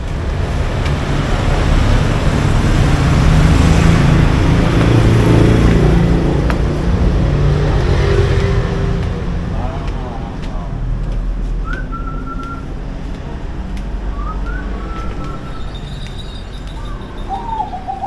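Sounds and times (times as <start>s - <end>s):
engine running close by: 0.0s - 18.0s
street traffic: 0.0s - 18.0s.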